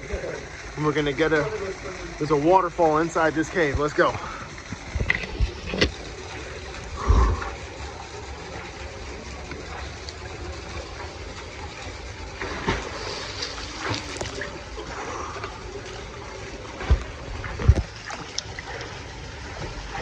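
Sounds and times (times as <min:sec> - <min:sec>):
rushing water: 0:00.0 - 0:20.0
water splashing from swimming: 0:00.0 - 0:20.0.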